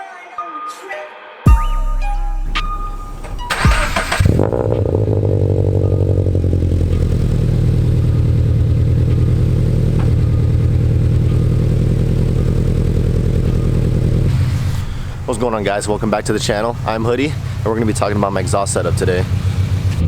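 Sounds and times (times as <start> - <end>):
car engine idling: 2.5 - 20.0.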